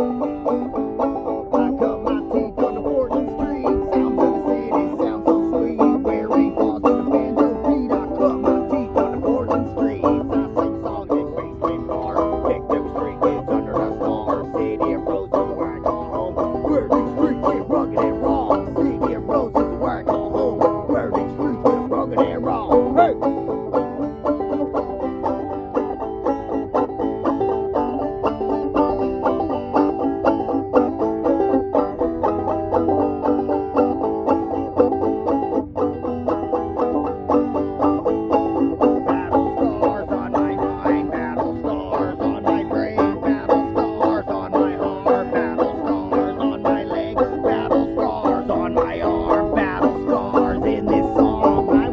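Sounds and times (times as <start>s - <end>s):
banjo picking fast notes: 0.0s - 51.9s
bluegrass string band music: 0.0s - 51.9s.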